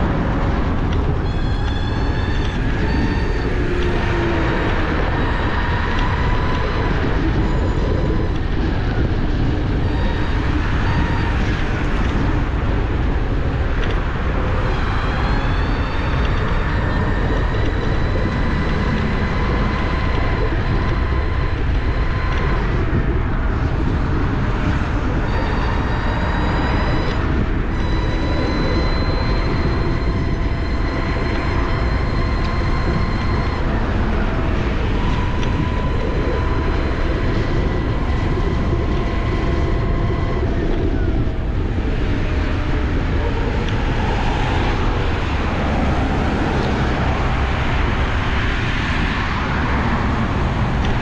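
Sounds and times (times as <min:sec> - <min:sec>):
electric scooter motor whining: 0:00.0 - 0:51.0
wind rumble on microphone: 0:00.0 - 0:51.0.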